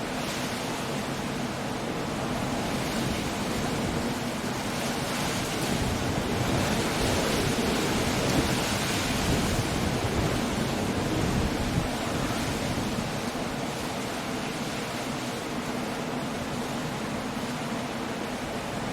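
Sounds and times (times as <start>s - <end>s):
rain: 0.0s - 18.9s
surf breaking on shore: 0.0s - 18.9s
wind: 0.0s - 18.9s.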